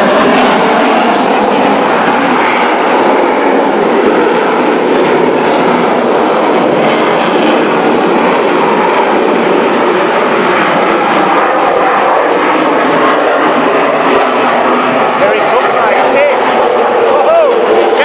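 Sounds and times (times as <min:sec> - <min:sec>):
jet engine noise: 0:00.0 - 0:18.0.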